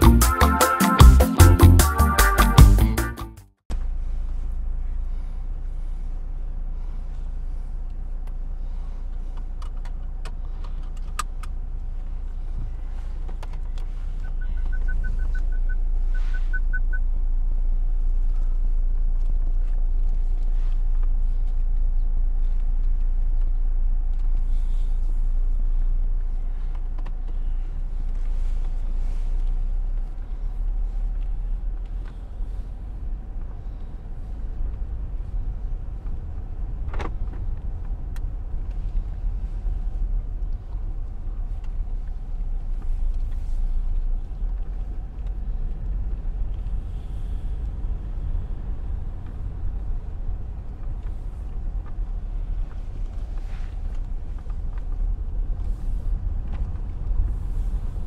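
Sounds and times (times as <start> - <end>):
car driving rumble: 3.6 - 58.0.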